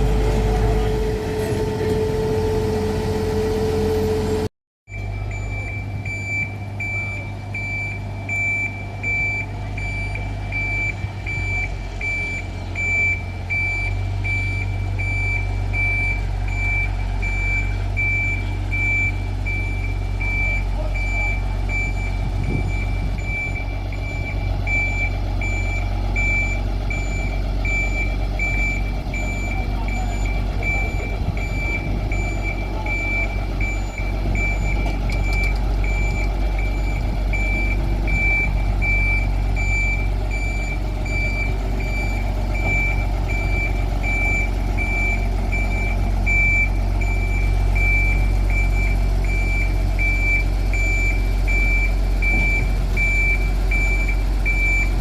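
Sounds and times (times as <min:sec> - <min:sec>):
low engine drone: 0:00.0 - 0:55.0
reversing alarm beeping: 0:00.0 - 0:55.0.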